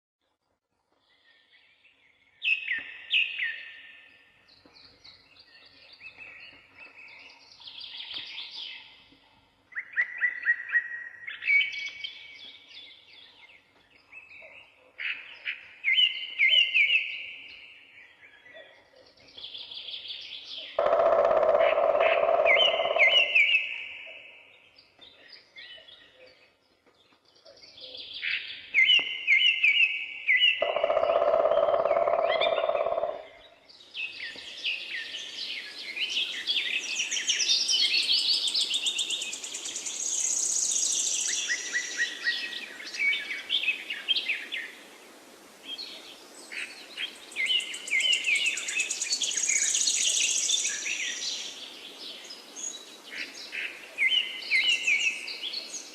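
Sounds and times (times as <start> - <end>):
songbird chirping and trilling: 0.9 - 44.9, 45.6 - 55.9.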